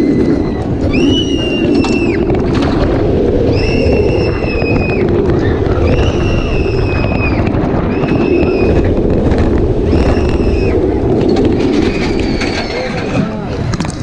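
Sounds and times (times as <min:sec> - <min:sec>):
roller coaster rushing on track: 0:00.0 - 0:14.0.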